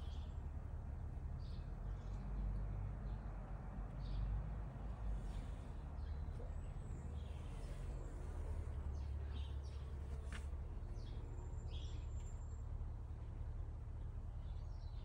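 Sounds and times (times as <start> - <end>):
small birds chirping: 0.0 - 0.6, 1.4 - 3.3, 4.0 - 15.0
steady low rumble: 0.0 - 15.0.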